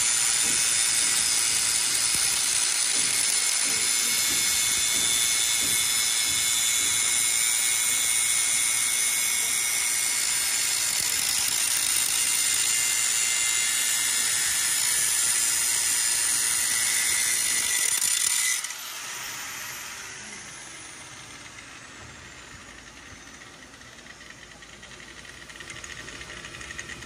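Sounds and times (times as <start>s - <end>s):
power tool grinding metal: 0.0s - 27.0s.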